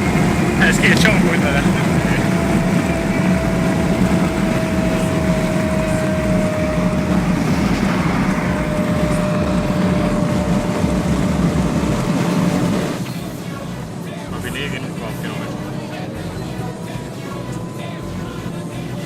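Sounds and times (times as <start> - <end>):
road and wind rush: 0.0 - 19.0
vehicle engine drone: 0.0 - 19.0.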